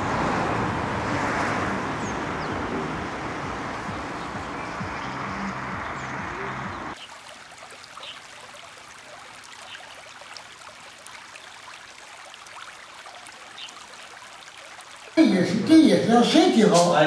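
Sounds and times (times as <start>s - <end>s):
stream running over stones: 1.6s - 17.0s.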